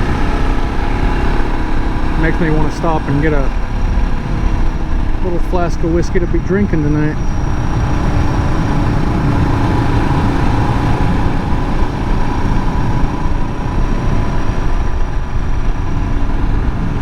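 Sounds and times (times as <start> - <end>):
motorcycle engine running: 0.0 - 17.0
wind noise: 0.0 - 17.0.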